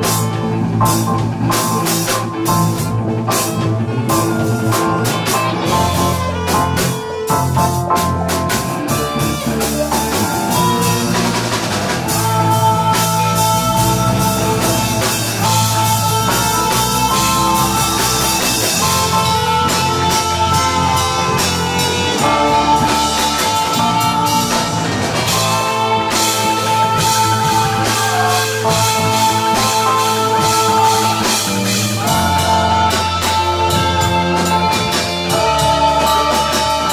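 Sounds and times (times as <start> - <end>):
rock jam with drums and guitar: 0.0 - 36.9.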